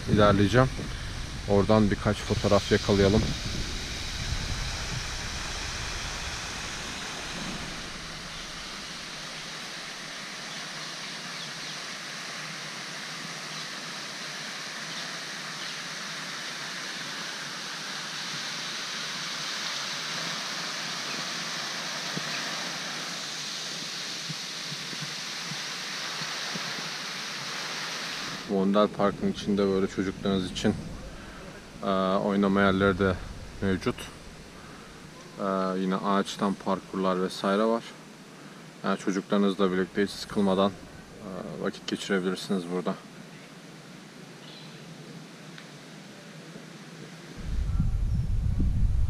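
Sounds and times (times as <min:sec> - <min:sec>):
fountain water splashing: 0:00.0 - 0:37.8, 0:38.5 - 0:42.9.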